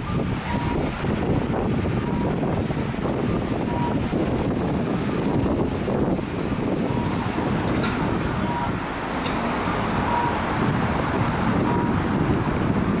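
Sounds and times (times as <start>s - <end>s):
road traffic rumble: 0.0s - 13.0s
wind on the microphone: 0.0s - 13.0s.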